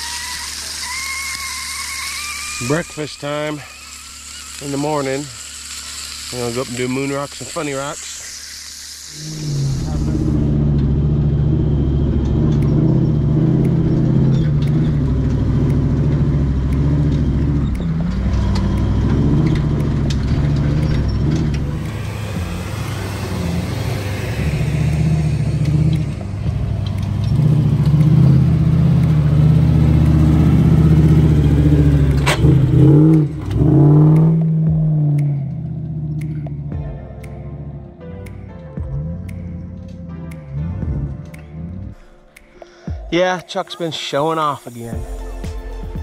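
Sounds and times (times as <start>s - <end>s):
off-road vehicle engines running: 0.0s - 42.1s
engine revving: 0.0s - 42.2s.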